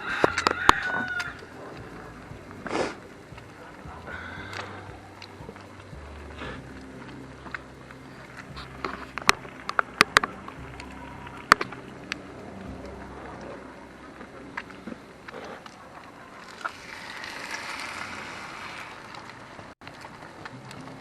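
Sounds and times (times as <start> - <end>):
motor humming: 0.0 - 15.4, 16.4 - 19.8.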